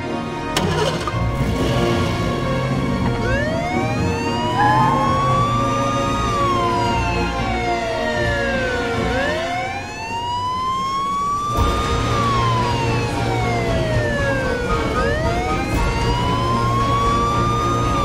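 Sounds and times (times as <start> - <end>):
emergency vehicle siren wailing: 2.5 - 18.0.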